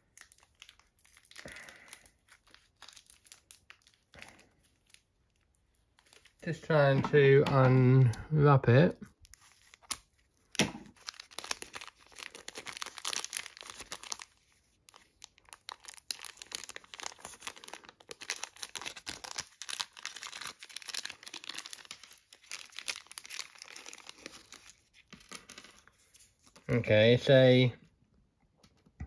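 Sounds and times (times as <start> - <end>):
plastic bag crinkling: 0.0 - 8.2, 9.1 - 26.8.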